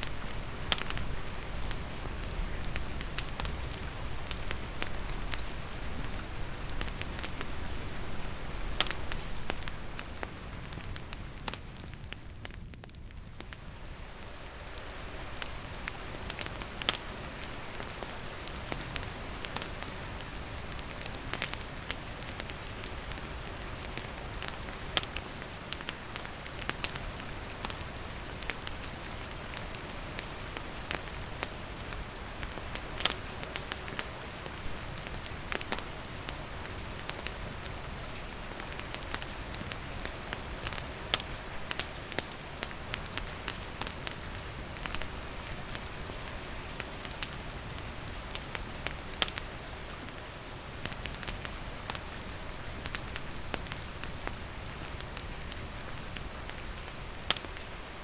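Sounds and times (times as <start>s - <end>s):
campfire crackling: 0.0s - 58.0s
rain falling: 0.0s - 58.0s.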